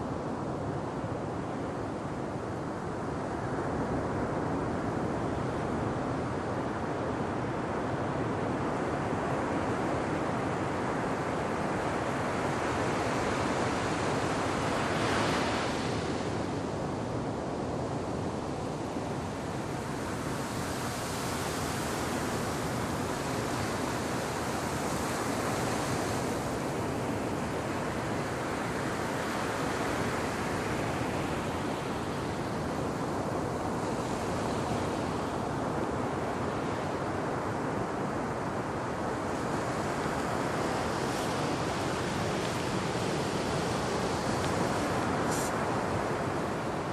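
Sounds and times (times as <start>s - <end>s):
waves breaking on shore: 2.0s - 46.9s.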